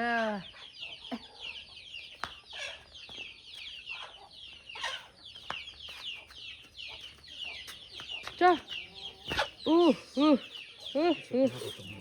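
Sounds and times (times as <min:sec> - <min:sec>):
chickens calling: 0:00.1 - 0:12.0.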